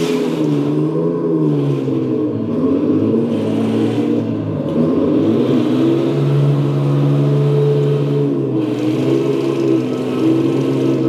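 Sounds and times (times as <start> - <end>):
simulated tank engine from speaker: 1.6 - 11.0.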